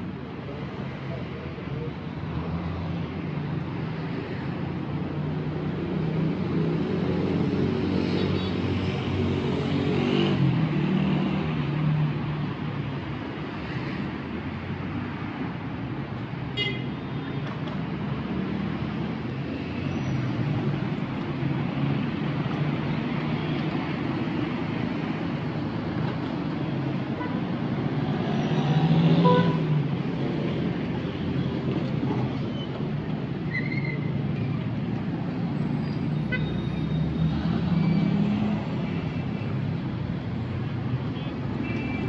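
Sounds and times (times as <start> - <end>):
car engines passing: 0.0 - 16.5, 17.2 - 42.0.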